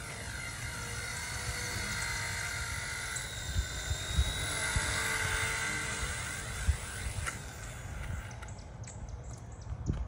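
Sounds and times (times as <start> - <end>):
electric rotor motor whining: 0.0 - 8.8
wind buffeting microphone: 0.2 - 10.0.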